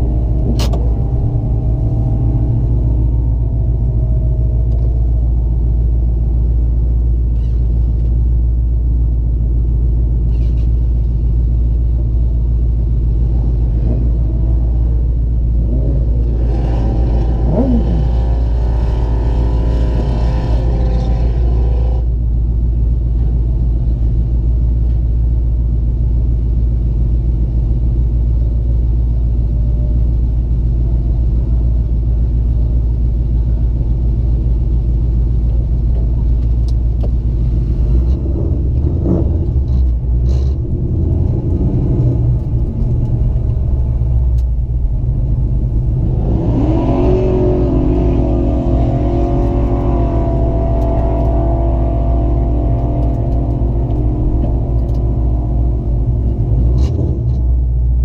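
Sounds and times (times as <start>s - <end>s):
car engine idling: 0.0s - 46.4s, 47.1s - 58.0s.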